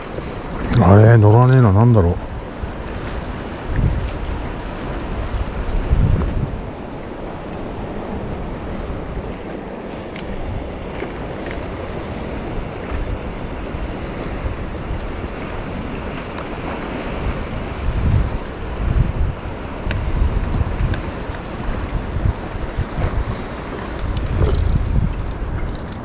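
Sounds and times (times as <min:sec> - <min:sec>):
harbour water washing: 0:00.0 - 0:26.0
wind buffeting microphone: 0:00.0 - 0:26.0.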